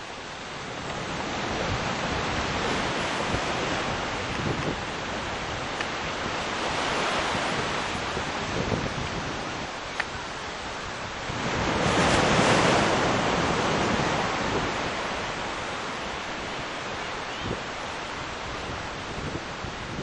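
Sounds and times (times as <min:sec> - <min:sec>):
ocean surf: 0:00.0 - 0:20.0
wind on microphone: 0:00.0 - 0:20.0.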